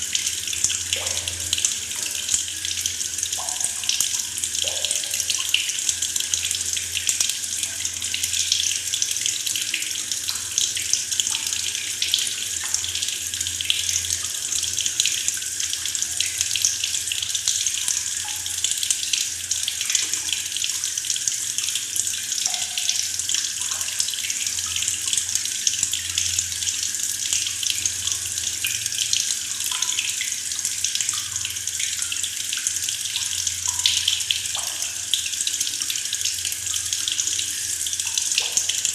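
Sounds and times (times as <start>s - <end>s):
tap water running into bucket: 0.0s - 38.9s.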